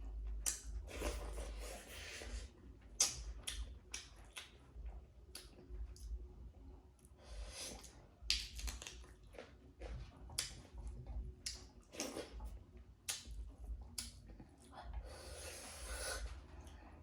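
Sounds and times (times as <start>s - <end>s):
mouth chewing food: 0.0s - 6.2s, 7.0s - 17.0s.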